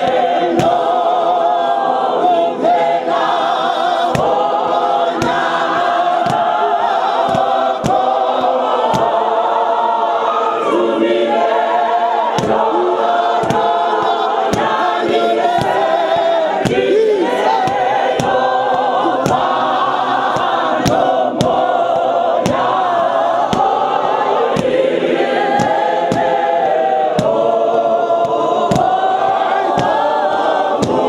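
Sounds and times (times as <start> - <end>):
congregation and choir singing hymn: 0.0 - 31.0
sharp steady beat: 2.8 - 9.8, 11.3 - 31.0.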